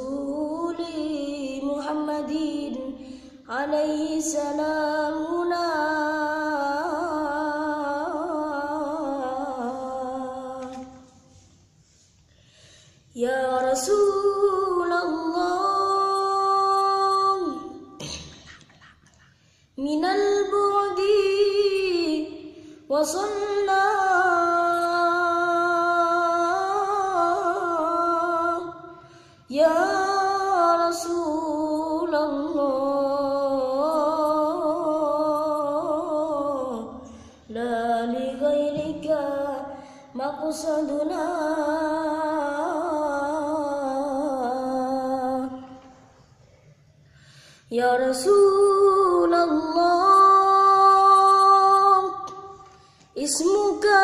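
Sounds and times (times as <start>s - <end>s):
person singing devotional song: 0.0s - 11.4s, 13.2s - 19.2s, 19.8s - 46.1s, 47.6s - 54.0s.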